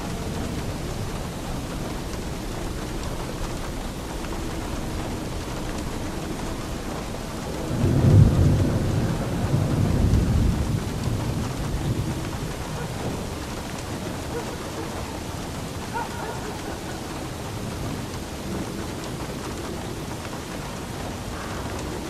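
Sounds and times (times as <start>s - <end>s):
low roll of thunder: 0.0s - 22.0s
steady rain: 0.0s - 22.0s.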